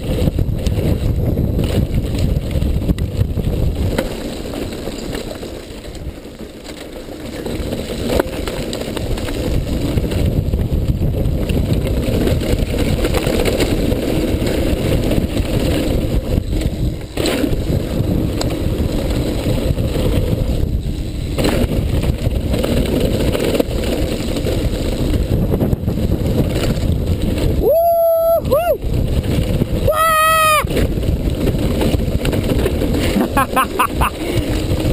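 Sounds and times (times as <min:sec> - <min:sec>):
wind on microphone: 0:00.0 - 0:04.9, 0:08.8 - 0:34.9
bike tyres on dirt and stones: 0:00.0 - 0:34.9.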